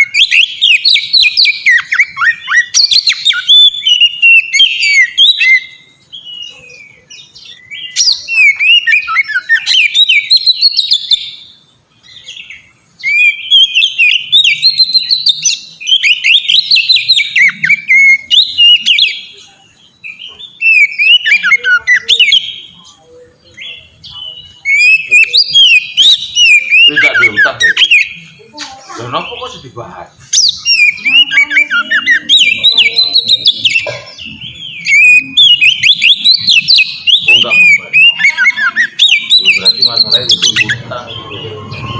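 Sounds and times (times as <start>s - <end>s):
bird singing whistled notes: 0.0s - 28.5s, 29.1s - 41.9s.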